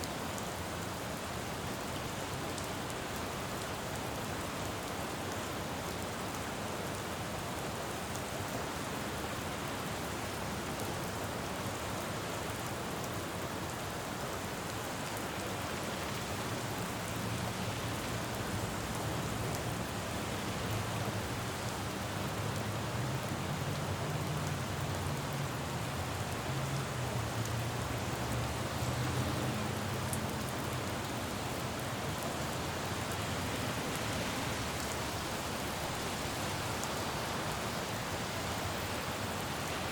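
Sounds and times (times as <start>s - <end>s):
rain falling on a road: 0.0s - 39.9s
low rumble of traffic: 0.1s - 39.9s.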